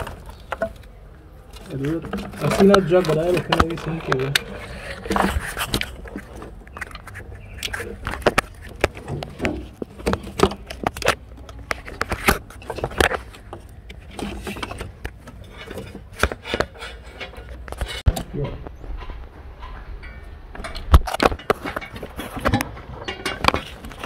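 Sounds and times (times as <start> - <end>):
clicks knocks and scrapes of parts: 0.0 - 24.0.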